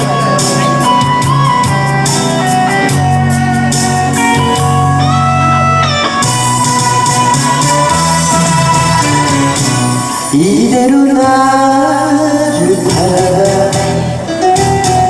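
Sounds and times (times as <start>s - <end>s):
guitar-like lead melody: 0.0s - 15.0s
steady bass line: 0.0s - 15.0s.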